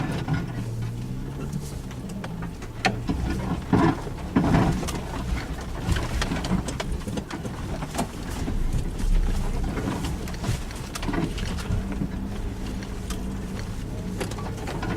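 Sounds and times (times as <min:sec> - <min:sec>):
car engine running low: 0:00.0 - 0:14.9.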